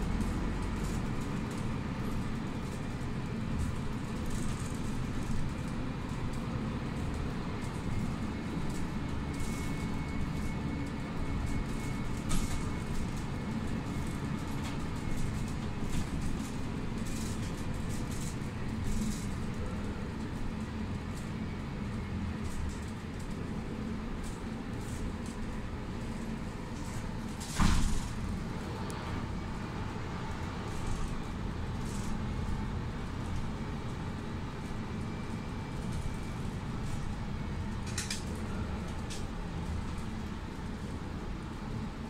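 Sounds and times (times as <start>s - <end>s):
bus engine and road rumble: 0.0s - 42.0s.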